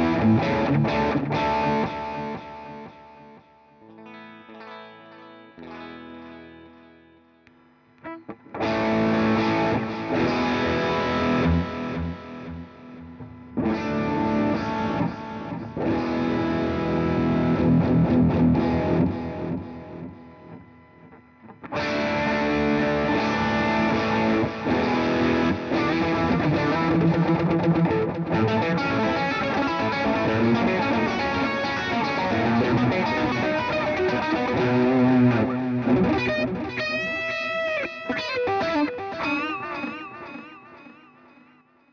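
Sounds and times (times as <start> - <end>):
distorted electric guitar: 0.0 - 41.9.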